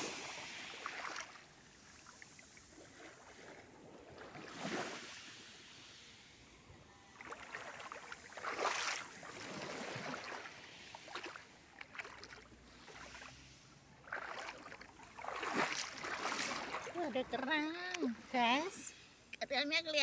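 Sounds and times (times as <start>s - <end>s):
seawater sloshing and lapping: 0.0s - 5.3s, 7.2s - 18.6s.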